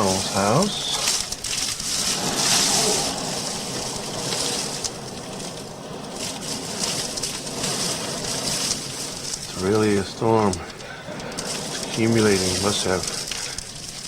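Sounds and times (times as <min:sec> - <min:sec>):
blizzard wind gusting: 0:00.0 - 0:14.0
snow hitting house: 0:00.0 - 0:14.0.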